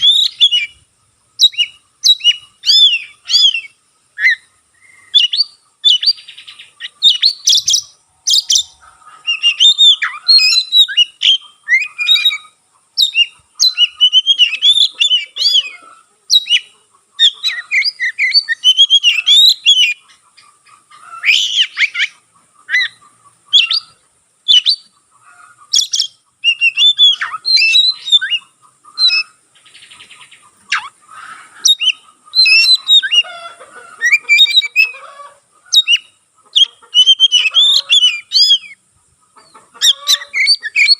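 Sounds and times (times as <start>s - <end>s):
bird singing whistles and chirps: 0.0s - 20.1s, 21.2s - 25.0s, 25.7s - 31.0s, 31.6s - 33.3s, 34.0s - 35.0s, 35.7s - 38.8s, 39.8s - 40.9s.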